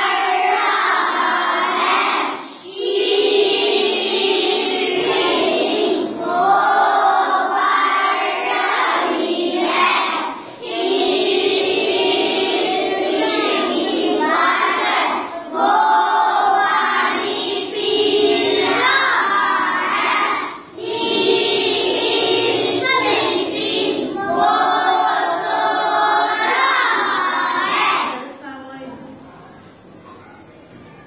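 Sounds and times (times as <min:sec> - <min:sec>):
children reciting in unison: 0:00.0 - 0:28.4.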